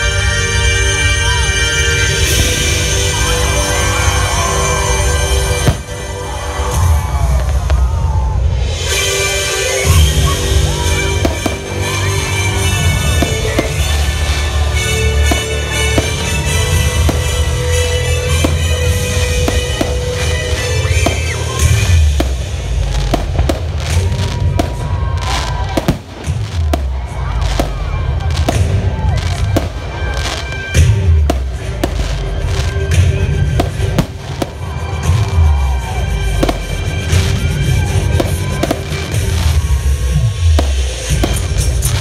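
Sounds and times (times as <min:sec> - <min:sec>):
fireworks bangs and crackles: 0:00.0 - 0:42.0
music playing: 0:00.0 - 0:42.0
deep fireworks booms: 0:01.3 - 0:09.0, 0:09.8 - 0:42.0.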